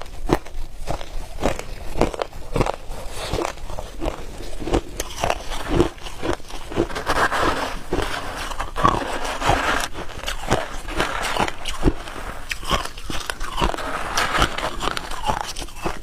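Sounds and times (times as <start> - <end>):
person chewing hard ice: 0.0 - 16.0.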